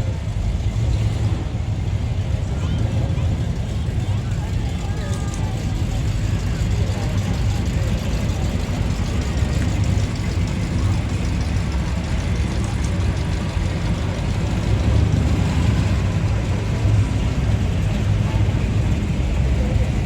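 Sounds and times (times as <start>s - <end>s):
car engines idling: 0.0s - 20.0s.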